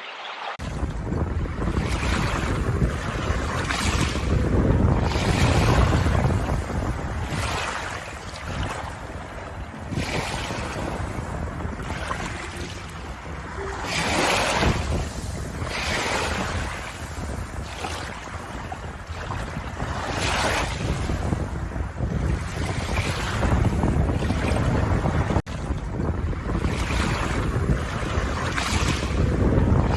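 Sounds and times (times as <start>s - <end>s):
ocean waves breaking: 0.0s - 29.9s.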